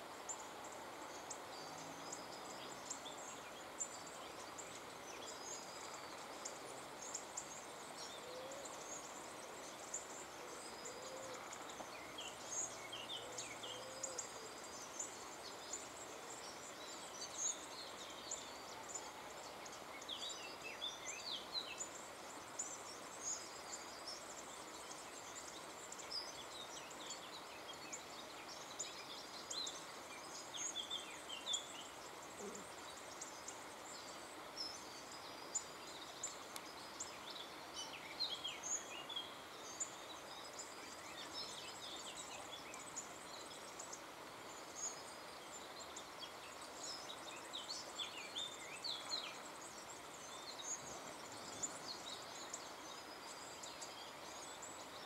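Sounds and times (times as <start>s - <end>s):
small birds chirping: 0.0s - 55.0s
steady low hiss: 0.0s - 55.0s.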